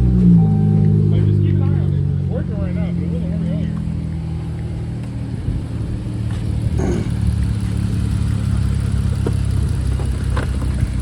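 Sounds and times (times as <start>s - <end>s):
car engine idling with misfire: 0.3s - 11.0s.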